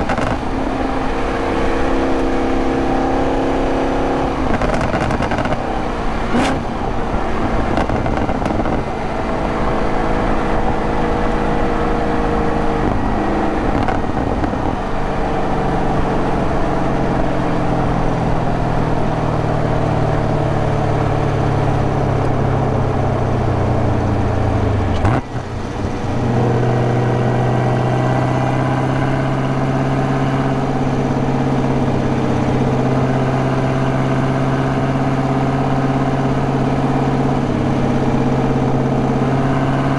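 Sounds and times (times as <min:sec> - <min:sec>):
car engine running while driving: 0:00.0 - 0:39.9
tyre and road noise: 0:00.0 - 0:39.9.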